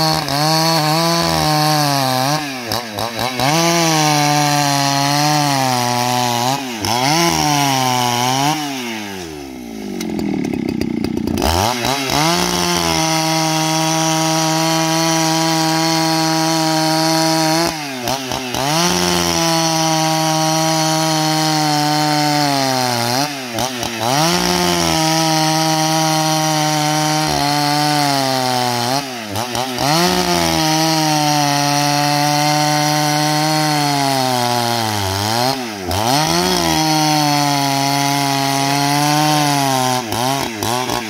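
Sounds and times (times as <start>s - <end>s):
chainsaw cutting a log: 0.0s - 41.0s.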